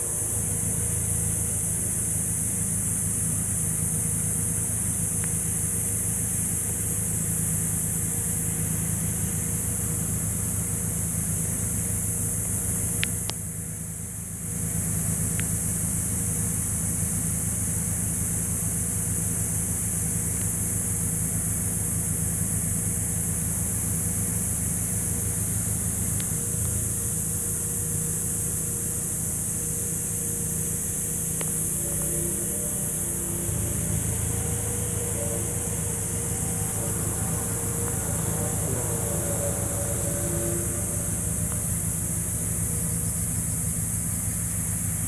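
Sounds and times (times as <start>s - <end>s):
machine drone with hiss: 0.0s - 45.0s.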